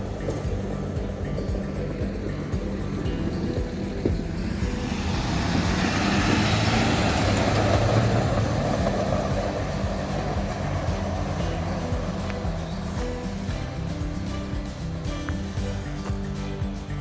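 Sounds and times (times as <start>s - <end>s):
road vehicle passing by: 0.0s - 17.0s.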